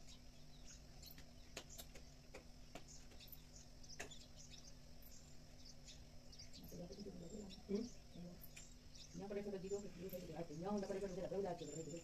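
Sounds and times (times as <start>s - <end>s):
faint bird chirps: 0.0s - 12.0s
faint low hum: 0.0s - 12.0s.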